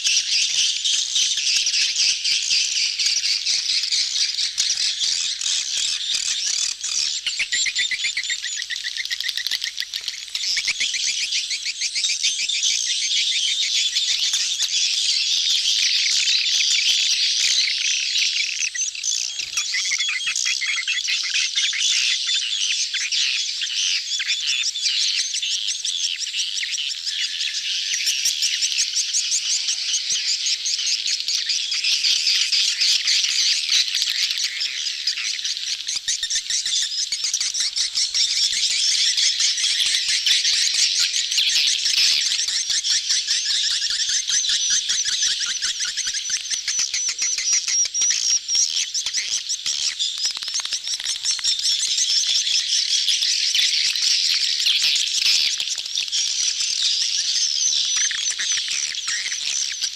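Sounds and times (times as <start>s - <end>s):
swiftlets twittering and trilling: 0.0s - 59.9s.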